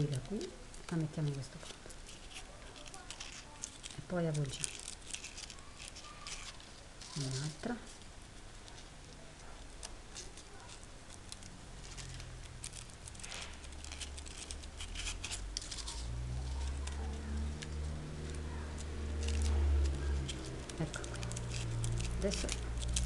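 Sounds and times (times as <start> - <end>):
crepe paper rustling and crinkling: 0.0 - 23.0.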